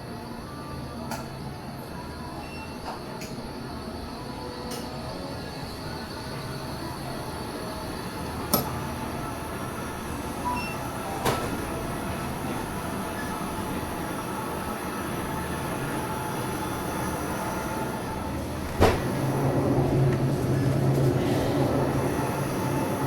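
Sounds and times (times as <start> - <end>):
refrigeration and ventilation hum: 0.0 - 23.0.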